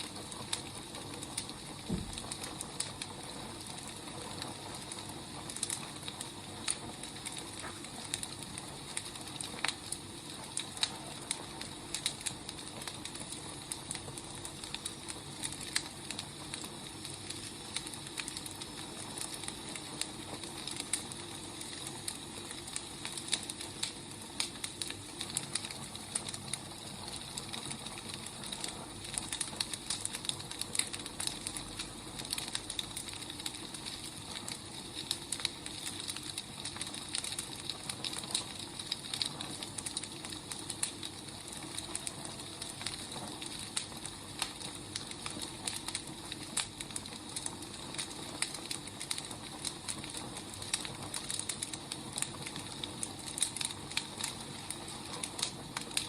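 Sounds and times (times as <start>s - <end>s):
firewood burning with crackles: 0.0s - 56.0s.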